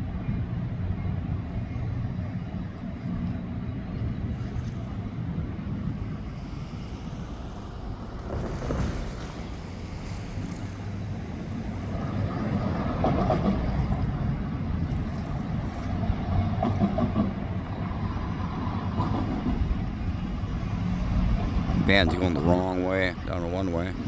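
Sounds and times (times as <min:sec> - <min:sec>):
diesel locomotives rumbling: 0:00.0 - 0:24.0.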